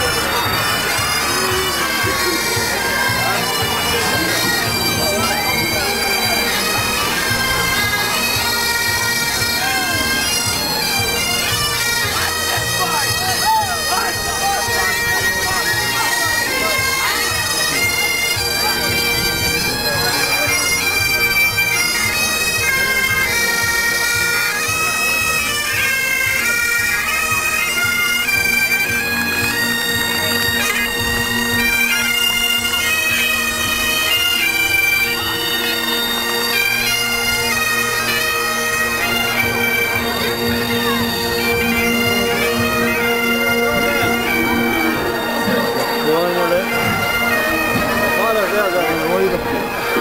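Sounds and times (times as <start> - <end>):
bagpipes playing a tune: 0.0 - 50.0.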